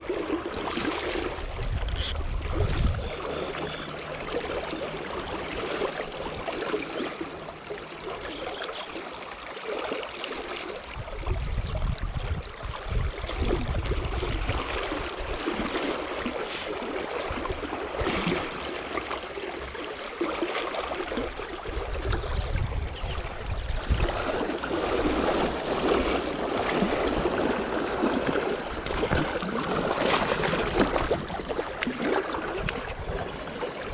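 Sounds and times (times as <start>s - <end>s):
river water flowing: 0.0s - 11.5s, 12.4s - 33.9s.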